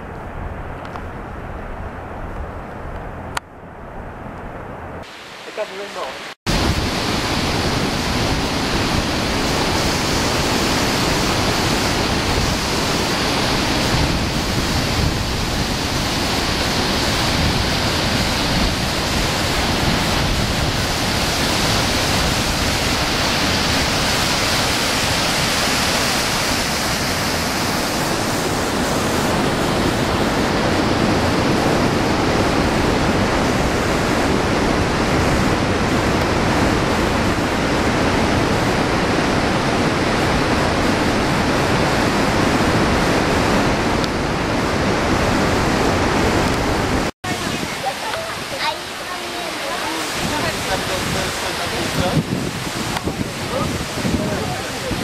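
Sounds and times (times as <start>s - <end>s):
waterfall rushing: 5.0s - 55.0s.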